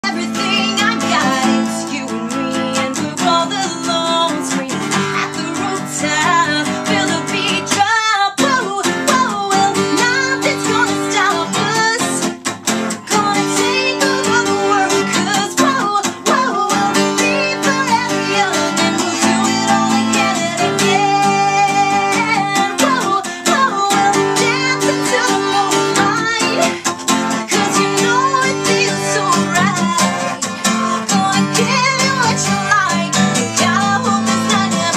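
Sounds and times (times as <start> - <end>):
acoustic guitar strumming: 0.0 - 34.9
woman singing: 0.0 - 34.9.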